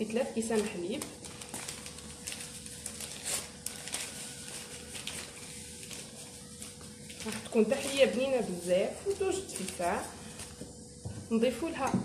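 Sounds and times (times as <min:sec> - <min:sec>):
faint steady hum: 0:00.0 - 0:12.0
paper sachets rustling: 0:00.4 - 0:10.6.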